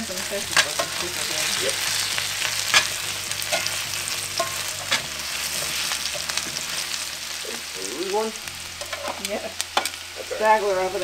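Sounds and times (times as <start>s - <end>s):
potatoes sizzling in oil: 0.0s - 11.0s
tongs clicking and scraping a pan: 0.0s - 11.0s.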